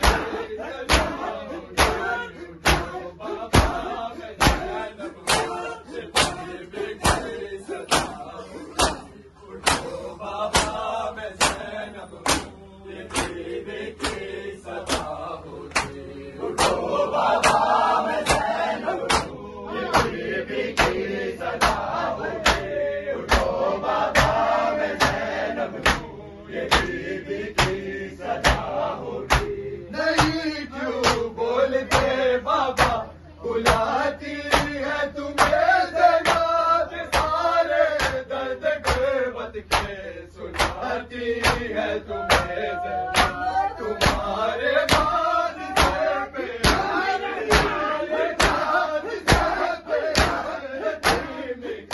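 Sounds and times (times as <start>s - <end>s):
male chorus chanting a lament: 0.0s - 51.9s
people slapping their chests: 0.0s - 51.9s.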